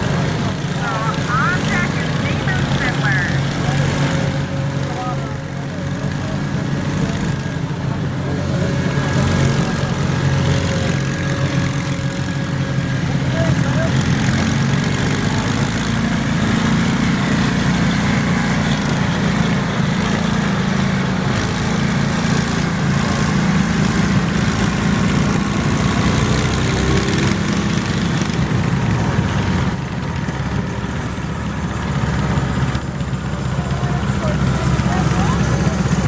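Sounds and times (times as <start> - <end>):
garden tractor engine running: 0.0 - 36.0.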